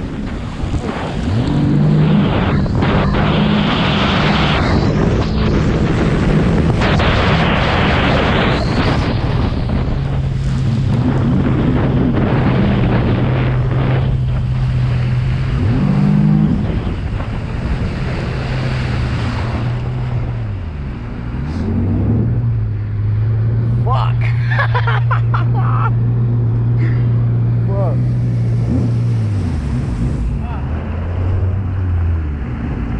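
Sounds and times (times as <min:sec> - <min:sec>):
jet ski engine running: 0:00.0 - 0:32.9
water rushing: 0:00.0 - 0:32.9
wind rush: 0:00.0 - 0:32.9.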